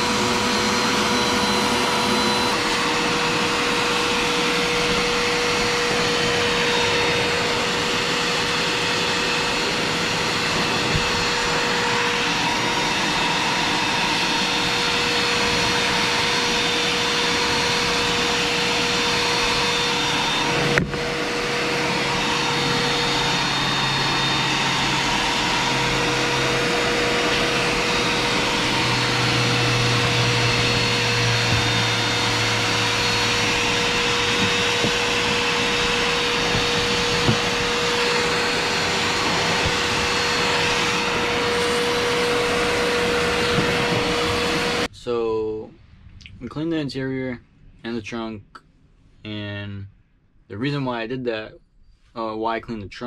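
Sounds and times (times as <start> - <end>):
vacuum motor whine: 0.0 - 45.6.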